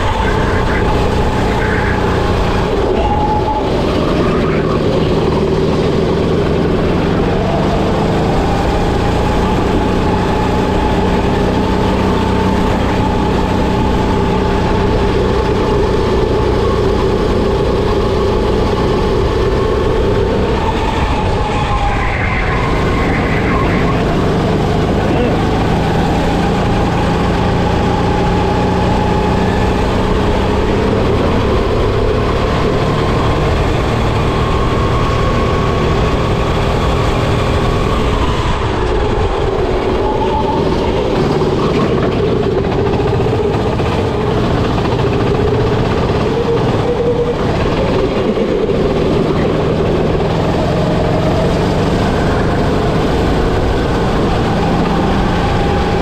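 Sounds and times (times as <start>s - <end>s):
constant rushing noise: 0.0s - 56.0s
go-kart engine revving: 0.0s - 56.0s.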